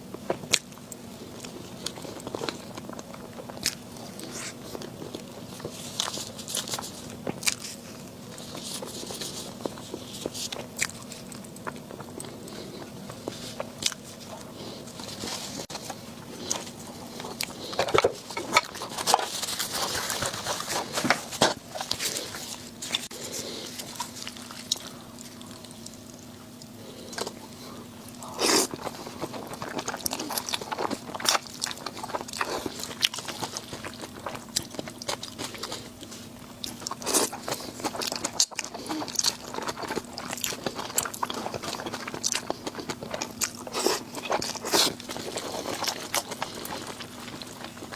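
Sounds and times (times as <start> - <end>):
faint steady hum: 0.0 - 47.9
person chewing and crunching: 0.0 - 47.9.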